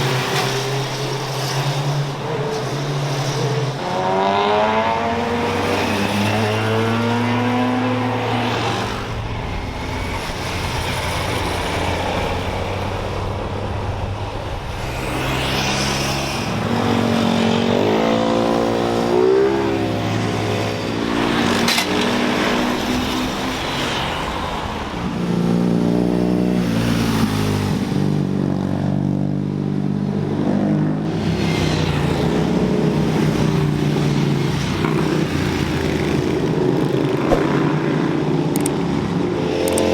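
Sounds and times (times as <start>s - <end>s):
high-performance cars passing: 0.0s - 39.9s.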